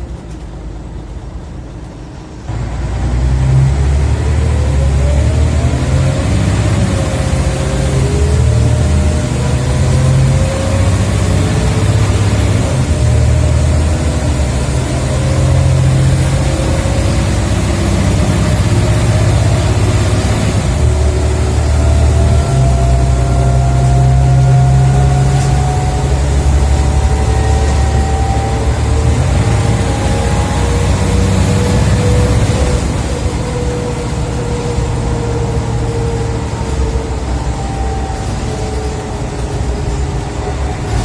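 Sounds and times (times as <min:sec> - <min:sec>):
deep bus engine: 0:00.0 - 0:41.0
high gearbox whine: 0:03.5 - 0:41.0.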